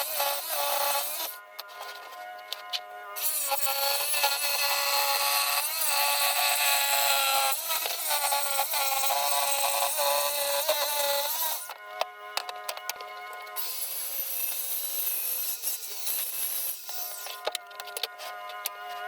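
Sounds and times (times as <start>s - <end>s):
power saw cutting wood: 0.0s - 19.0s.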